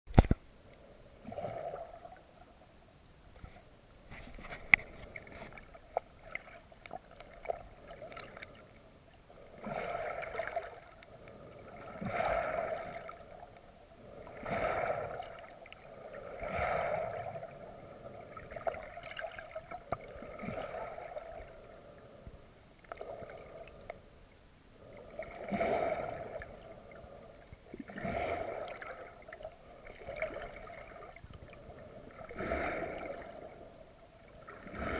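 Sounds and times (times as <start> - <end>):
underwater river noise: 0.1 - 34.9.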